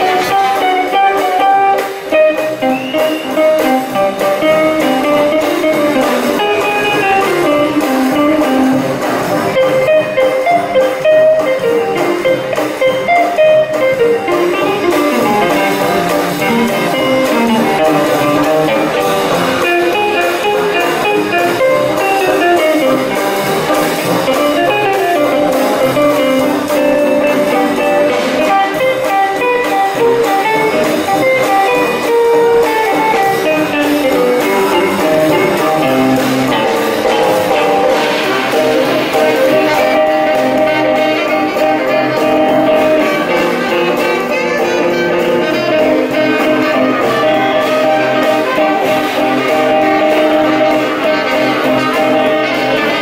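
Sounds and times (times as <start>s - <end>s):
guitar: 0.0s - 53.0s
swing band playing jazz: 0.0s - 53.0s.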